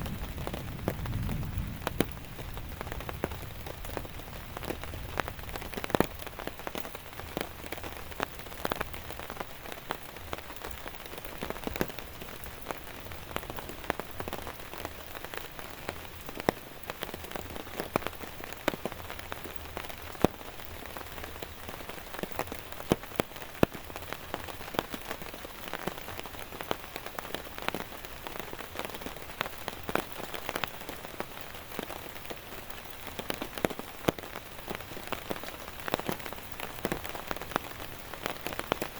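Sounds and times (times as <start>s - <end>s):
raindrops clicking on surface: 0.0s - 38.9s.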